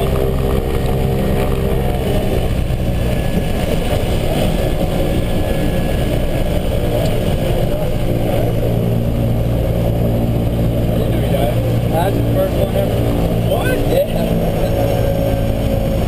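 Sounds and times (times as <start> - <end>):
propeller airplane engines droning: 0.0 - 16.0.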